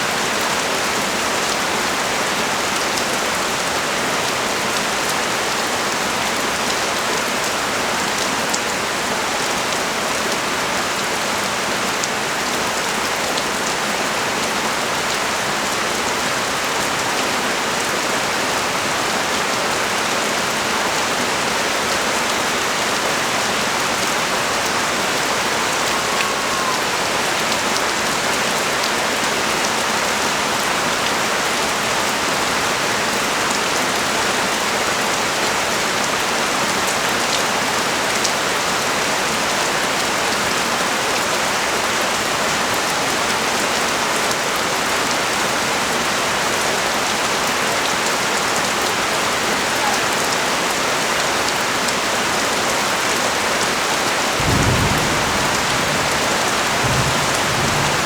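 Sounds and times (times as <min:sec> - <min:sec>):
rain falling on street: 0:00.0 - 0:58.0.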